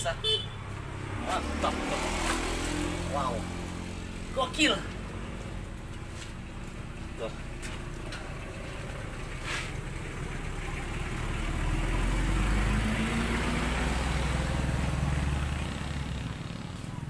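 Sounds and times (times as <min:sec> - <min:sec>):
vehicle engine passing: 0:00.0 - 0:17.0.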